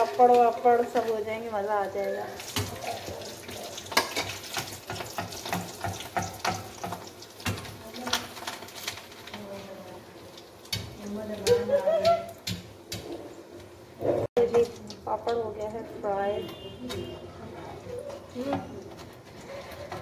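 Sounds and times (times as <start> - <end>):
food deep-frying in hot oil: 0.0 - 20.0.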